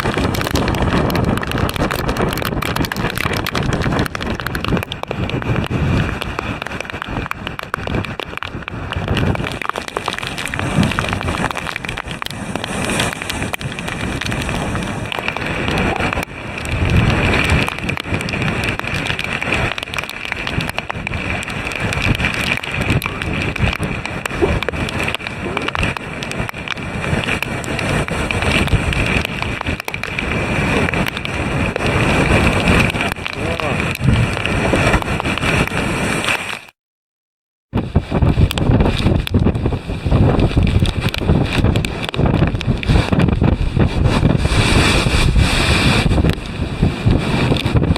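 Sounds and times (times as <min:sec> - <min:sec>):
storm surf crashing against seawall: 0:00.0 - 0:36.6, 0:37.8 - 0:47.9
wind noise on microphone: 0:00.0 - 0:36.8, 0:37.7 - 0:47.9.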